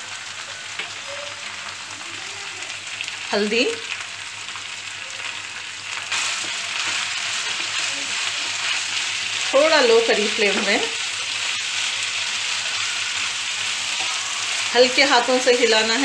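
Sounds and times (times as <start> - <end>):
leaves sizzling in hot oil: 0.0 - 16.0.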